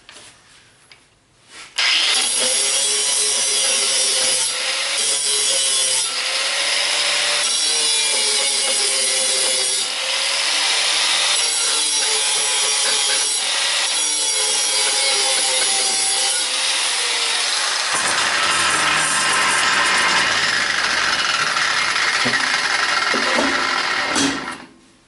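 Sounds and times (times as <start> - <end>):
power grinder grinding steel: 1.8 - 24.7.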